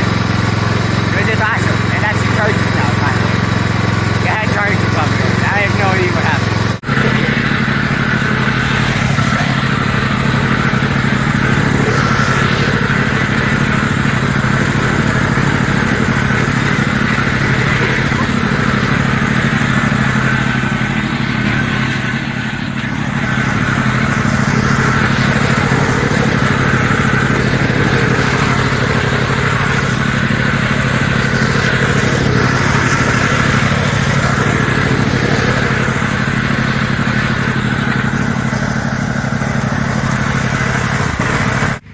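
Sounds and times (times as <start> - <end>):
lawnmower engine running: 0.0 - 41.9.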